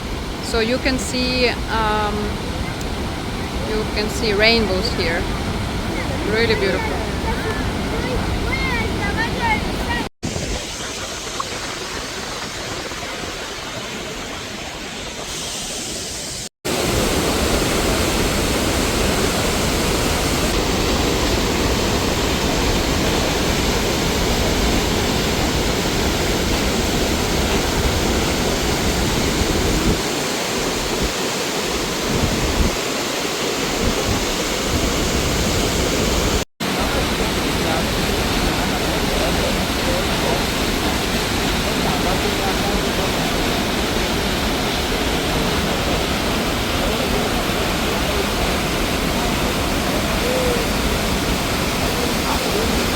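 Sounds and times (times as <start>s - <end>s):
waterfall roaring: 0.0s - 52.9s.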